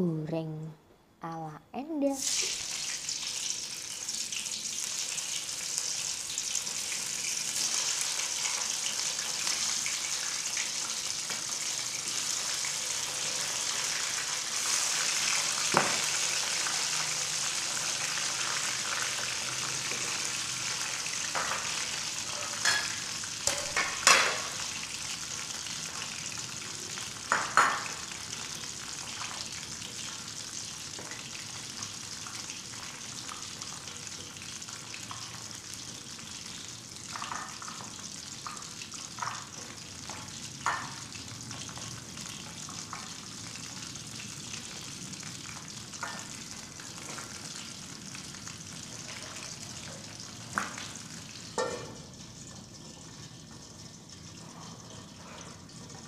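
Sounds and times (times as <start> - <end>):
chicken sizzling in hot oil: 2.2 - 56.0.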